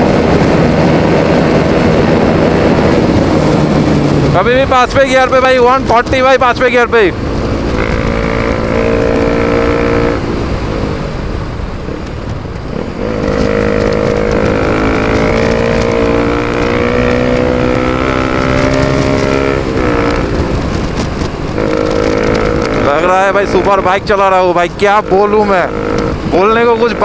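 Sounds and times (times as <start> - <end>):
motorcycle engine at high speed: 0.0 - 27.0.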